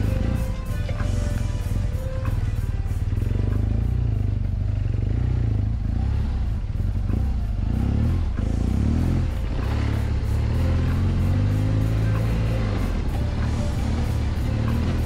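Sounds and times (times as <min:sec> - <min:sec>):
background music with steady beat: 0:00.0 - 0:15.0
motorcycle engine running: 0:00.0 - 0:15.0.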